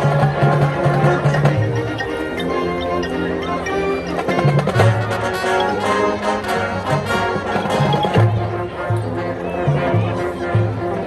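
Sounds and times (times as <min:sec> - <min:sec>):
lively brass and percussion music: 0:00.0 - 0:11.0.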